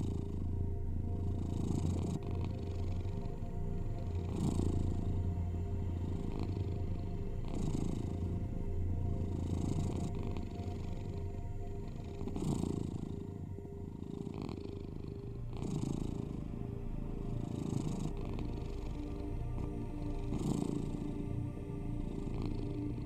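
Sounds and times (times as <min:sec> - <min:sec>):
cat purring: 0:00.0 - 0:23.0
low humming tones: 0:00.0 - 0:23.0.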